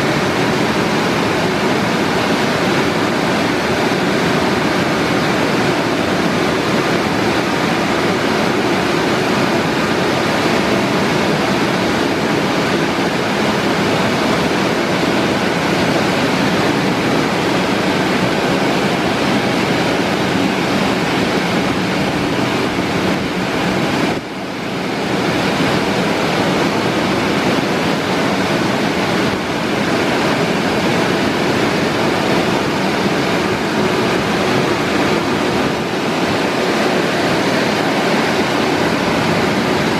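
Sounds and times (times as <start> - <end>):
car wash brushes and water spray: 0.0 - 39.9.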